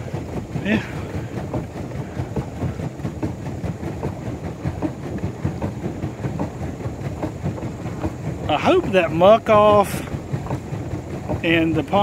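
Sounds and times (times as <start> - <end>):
pedal boat churning water: 0.0 - 12.0.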